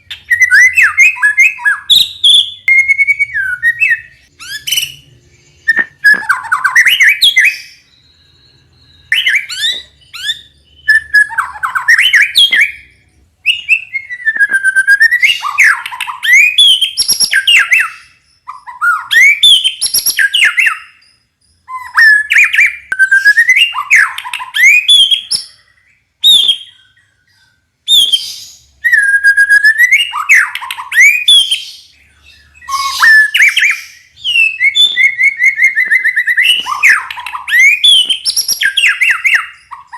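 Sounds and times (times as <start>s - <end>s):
bird whistling and rattling calls: 0.0s - 39.9s.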